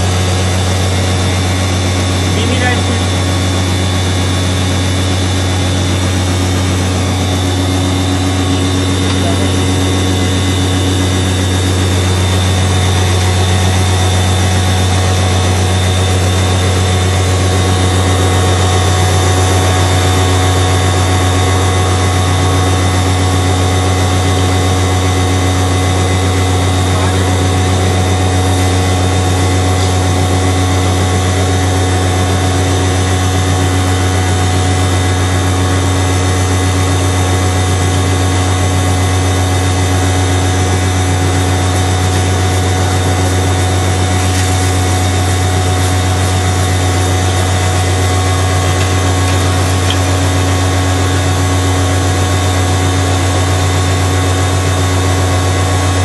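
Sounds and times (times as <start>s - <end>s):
electric mill humming: 0.0s - 56.0s.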